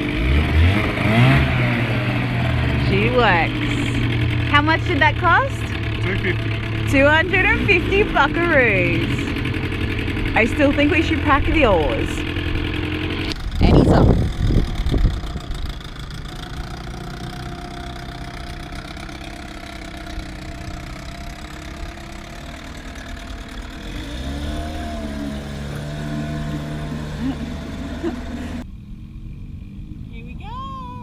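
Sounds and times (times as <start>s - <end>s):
outboard motor droning: 0.0s - 28.7s.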